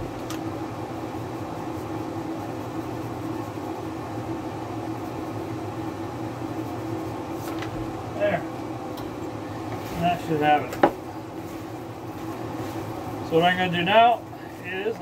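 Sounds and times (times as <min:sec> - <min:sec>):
fan motor humming: 0:00.0 - 0:15.0.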